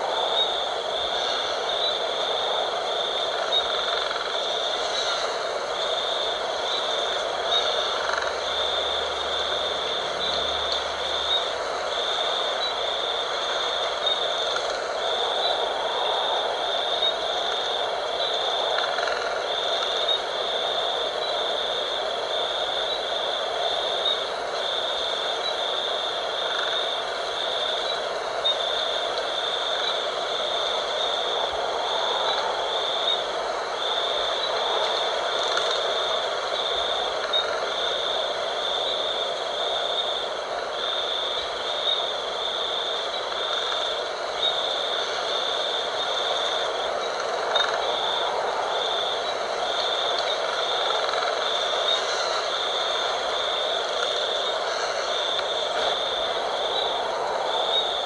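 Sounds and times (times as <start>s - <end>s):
high-pitched insect trill: 0.0s - 58.0s
night wind rushing: 0.0s - 58.0s.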